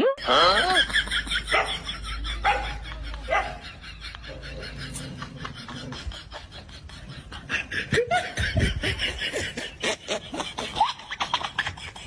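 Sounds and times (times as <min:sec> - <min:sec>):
person laughing: 0:00.2 - 0:12.0.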